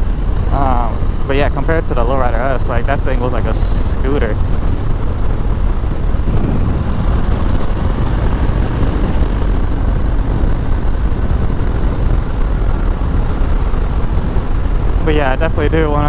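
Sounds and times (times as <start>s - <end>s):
motorcycle engine cruising: 0.0s - 16.0s
wind noise on microphone: 0.0s - 16.0s.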